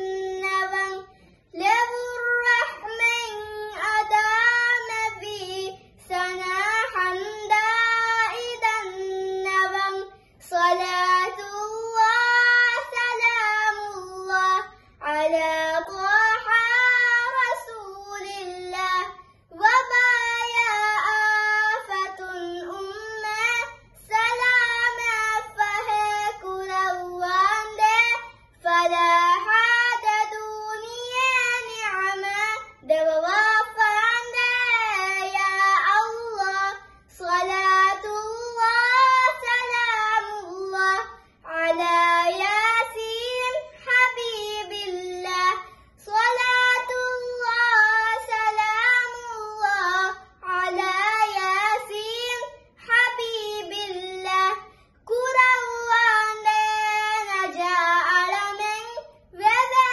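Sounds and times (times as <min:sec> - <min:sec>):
girl singing unaccompanied: 0:00.0 - 0:59.9.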